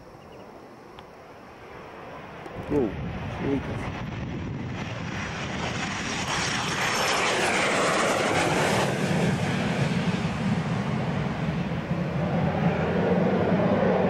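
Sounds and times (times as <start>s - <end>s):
jet plane passing low: 0.0s - 14.0s.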